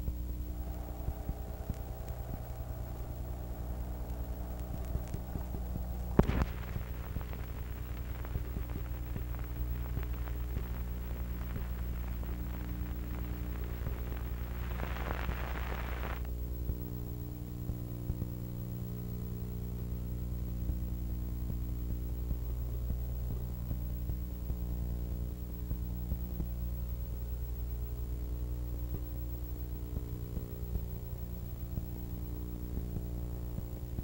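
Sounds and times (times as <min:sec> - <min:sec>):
electrical hum with crackle: 0:00.0 - 0:34.0.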